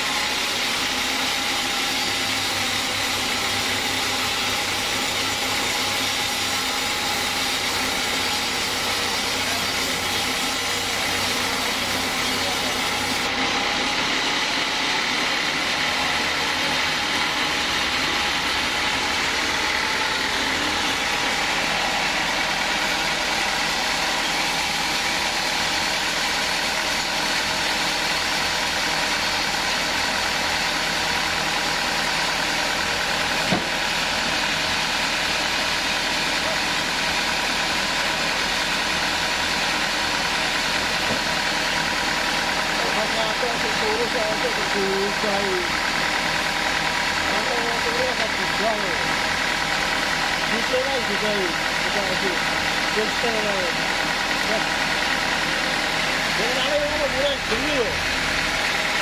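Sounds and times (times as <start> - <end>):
band saw cutting through log: 0.0 - 59.0.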